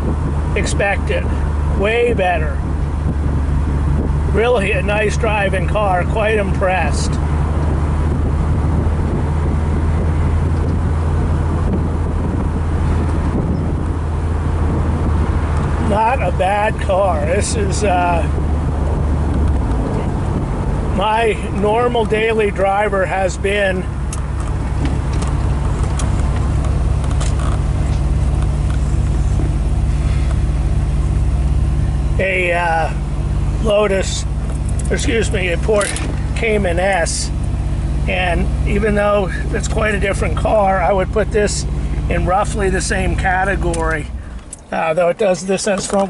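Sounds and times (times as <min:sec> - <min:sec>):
car engine cruising: 0:00.0 - 0:46.0
tyre and road noise: 0:00.0 - 0:46.0.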